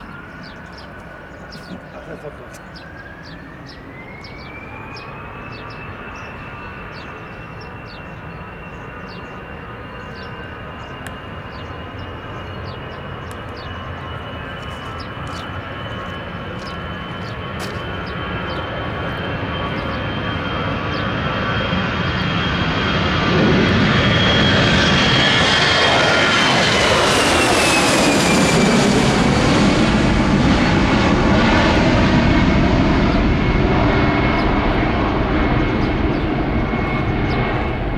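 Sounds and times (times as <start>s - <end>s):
jet airliner taking off: 0.0s - 37.9s.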